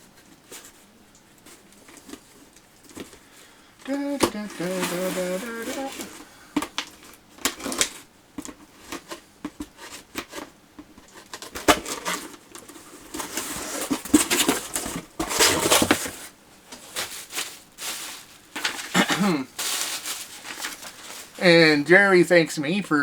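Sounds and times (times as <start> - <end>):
cardboard rustling and crinkling: 0.0 - 22.0.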